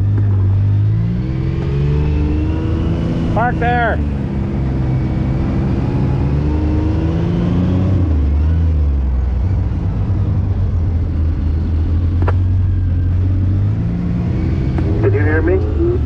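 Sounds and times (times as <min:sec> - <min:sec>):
vehicle engine low drone: 0:00.0 - 0:16.0.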